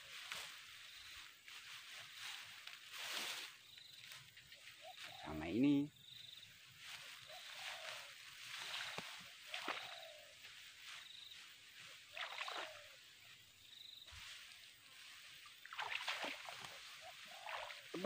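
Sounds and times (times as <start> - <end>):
tall grass rustling: 0.0 - 18.0.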